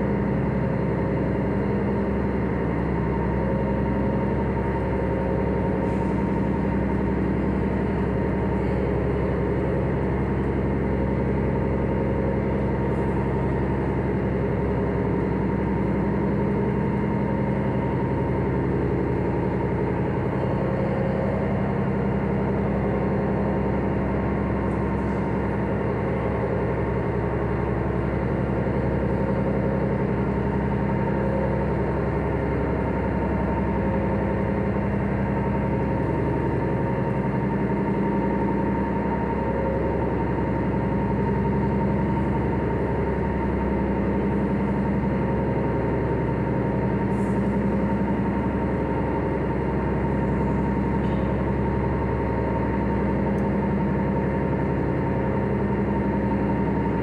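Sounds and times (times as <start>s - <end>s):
ship engine drone: 0.0s - 57.0s.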